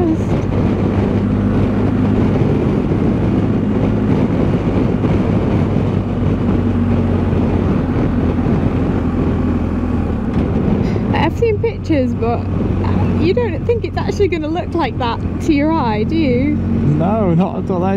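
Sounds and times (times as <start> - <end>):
motorcycle engine cruising: 0.0 - 17.9
wind rushing over microphone: 0.0 - 17.9.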